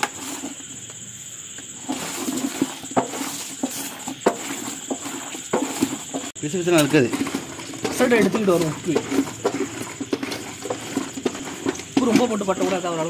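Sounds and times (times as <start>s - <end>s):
high-pitched insect trill: 0.0s - 13.0s
wet squelches in metal pot: 1.7s - 13.0s.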